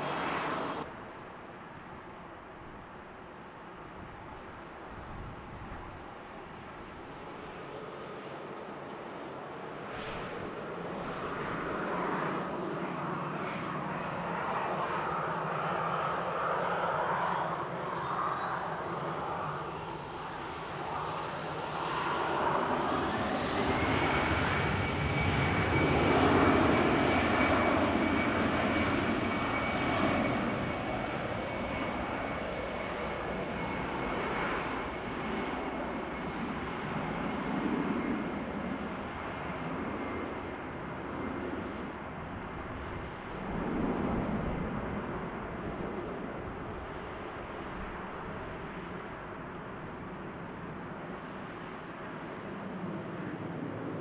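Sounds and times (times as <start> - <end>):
jet engines whining: 0.0 - 0.9, 5.0 - 54.0.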